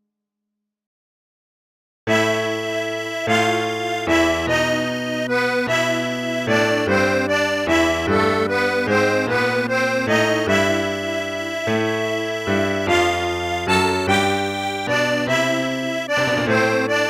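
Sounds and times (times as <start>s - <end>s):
reedy accordion-like chords: 2.1s - 17.0s.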